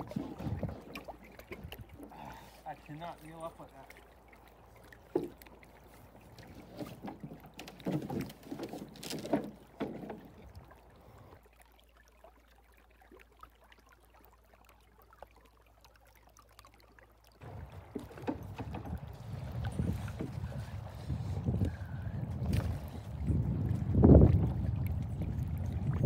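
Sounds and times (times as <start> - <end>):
paddle splashing in shallow water: 0.0 - 26.0.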